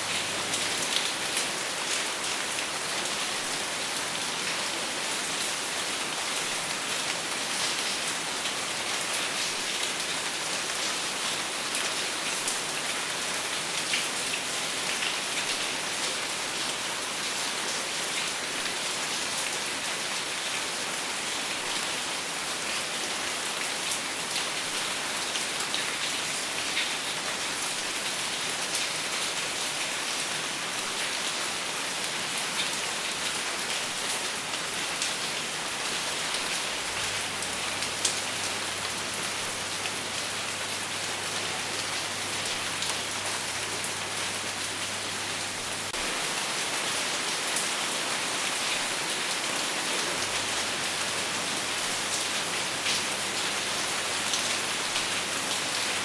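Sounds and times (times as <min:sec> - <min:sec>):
steady rain on a surface: 0:00.0 - 0:56.0.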